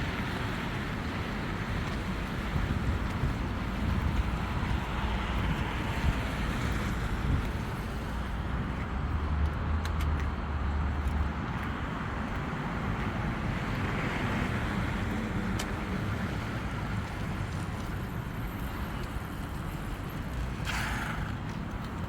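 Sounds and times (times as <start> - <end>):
road traffic noise: 0.0 - 22.0
wind rumble on microphone: 0.0 - 22.0.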